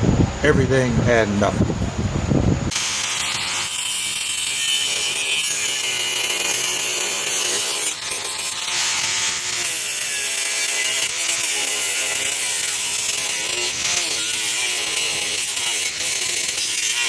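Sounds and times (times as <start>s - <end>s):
cutoff wheel grinding steel: 2.7s - 17.0s.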